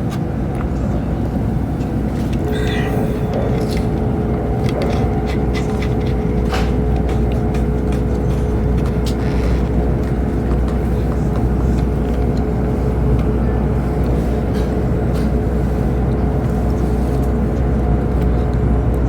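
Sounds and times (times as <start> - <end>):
constant hum: 0.0 - 19.0
train rumble inside cabin: 0.0 - 19.0.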